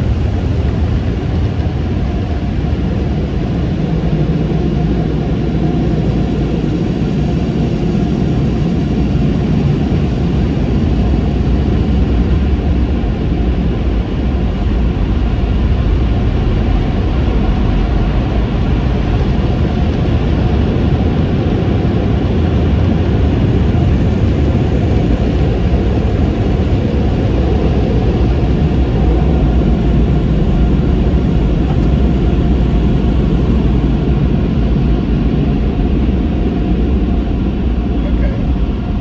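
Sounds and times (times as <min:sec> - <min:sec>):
car idling low rumble: 0:00.0 - 0:39.0.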